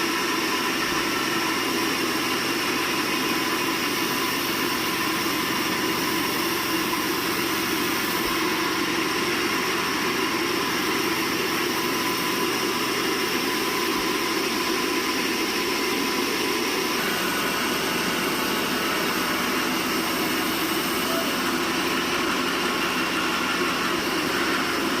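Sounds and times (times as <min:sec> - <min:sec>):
sawmill machinery droning: 0:00.0 - 0:25.0.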